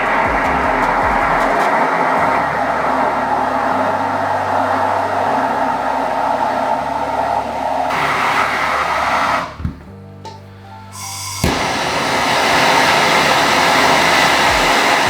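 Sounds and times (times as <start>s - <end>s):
gas torch flame hissing: 0.0s - 9.6s, 10.9s - 15.0s.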